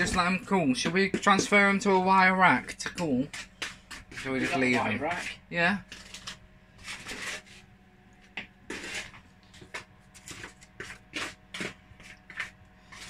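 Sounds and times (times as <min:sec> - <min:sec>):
utensils scraping and clattering: 0:00.0 - 0:07.6, 0:08.7 - 0:13.0
low steady hum: 0:00.0 - 0:13.0.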